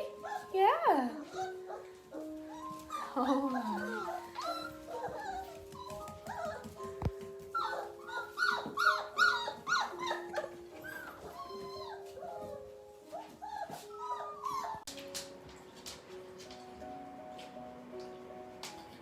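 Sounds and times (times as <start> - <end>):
puppies whining and squeaking: 0.0 - 15.7
background music: 0.0 - 19.0.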